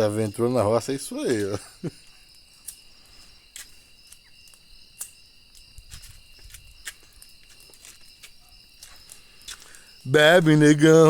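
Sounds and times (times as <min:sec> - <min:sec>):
campfire crackling and popping: 0:00.0 - 0:11.0
crickets trilling: 0:00.0 - 0:11.0.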